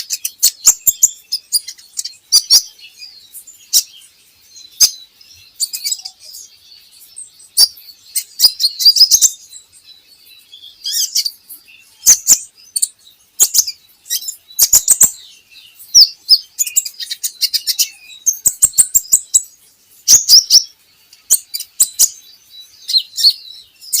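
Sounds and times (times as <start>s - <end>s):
bird chirping and trilling: 0.0s - 24.0s.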